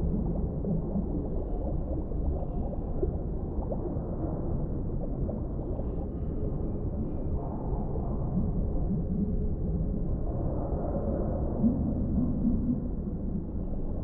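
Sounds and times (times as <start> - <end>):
faint bubbling: 0.0 - 13.8
muffled underwater rumble: 0.0 - 14.0.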